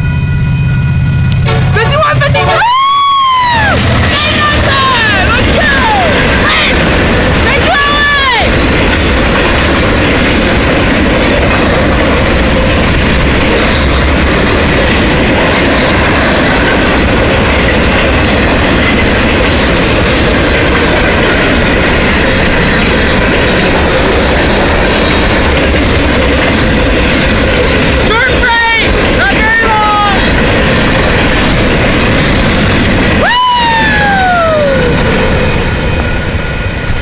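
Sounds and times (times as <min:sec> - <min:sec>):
freight train wheels clattering: 0:00.6 - 0:37.0.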